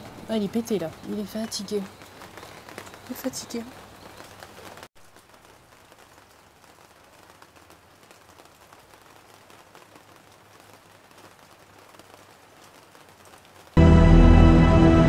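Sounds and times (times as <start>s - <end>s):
light rain patter: 0.0s - 13.9s.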